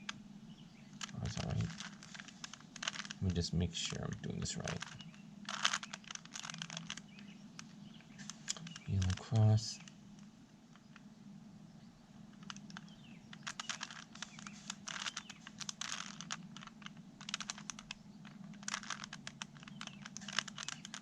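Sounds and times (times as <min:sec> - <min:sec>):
plastic puzzle cube clicking: 0:01.0 - 0:11.0, 0:12.3 - 0:21.0.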